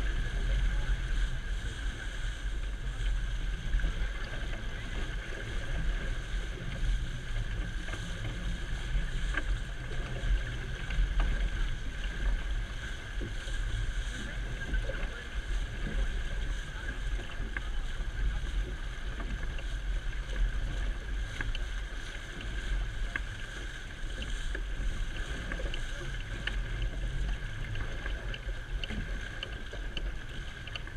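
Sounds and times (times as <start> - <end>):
water rushing and splashing: 0.0 - 30.9
wind rumbling on microphone: 0.0 - 30.9.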